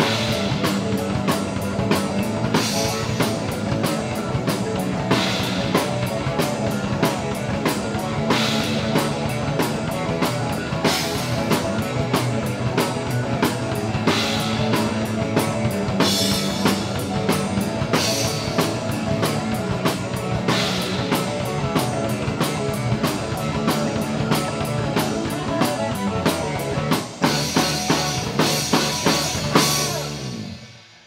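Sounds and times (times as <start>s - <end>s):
bass guitar: 0.0s - 30.8s
drum kit beat: 0.0s - 30.8s
electric guitars: 0.0s - 31.0s.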